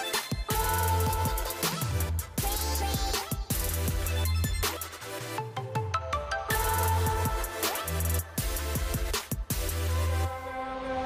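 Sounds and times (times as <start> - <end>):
music with heavy bass and drum beat: 0.0 - 5.4, 6.5 - 10.4.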